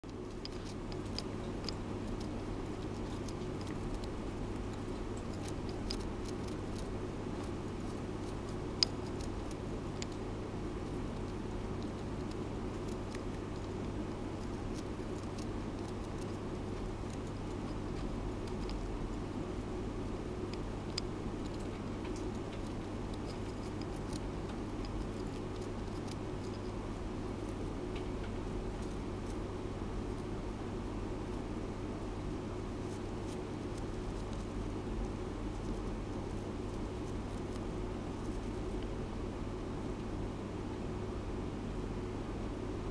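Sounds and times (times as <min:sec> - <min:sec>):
hamster gnawing: 0:00.0 - 0:40.2
steady low hum: 0:00.0 - 0:42.9.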